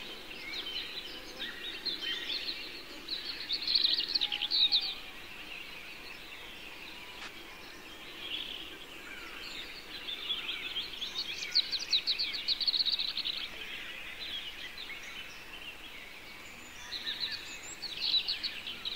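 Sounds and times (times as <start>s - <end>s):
birds trilling and chirping: 0.0s - 18.9s.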